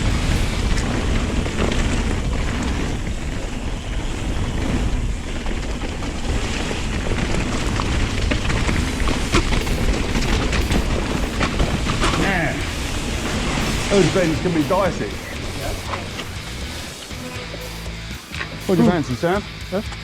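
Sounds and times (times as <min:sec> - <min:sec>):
wind buffeting microphone: 0:00.0 - 0:17.8
stones and bike rattling: 0:00.0 - 0:20.0
tyres rumbling over gravel: 0:00.0 - 0:20.0.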